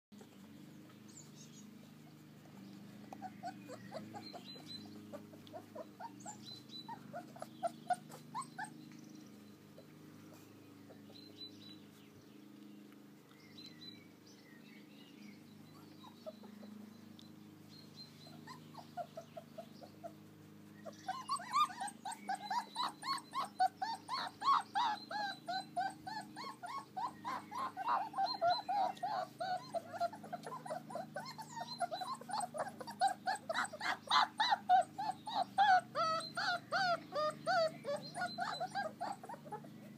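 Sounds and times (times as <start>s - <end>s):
puppies whimpering: 0.2s - 12.0s, 15.6s - 17.2s, 17.8s - 39.9s.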